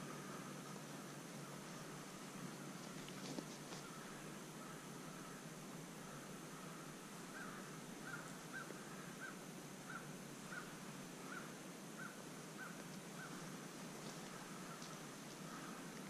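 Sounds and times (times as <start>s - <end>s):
faint woodland hiss: 0.0s - 16.0s.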